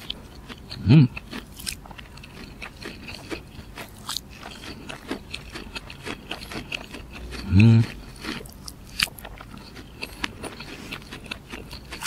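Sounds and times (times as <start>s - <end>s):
wet chewing mouth clicks: 0.0s - 12.0s.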